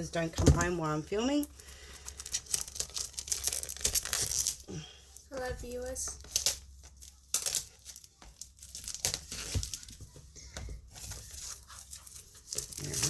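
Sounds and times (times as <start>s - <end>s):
plastic wrap crinkling: 0.2s - 13.0s.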